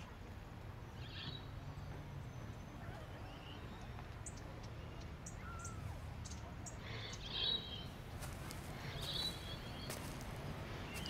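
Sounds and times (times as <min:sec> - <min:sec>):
low background hum: 0:00.0 - 0:11.0
bird chirps: 0:00.9 - 0:10.2.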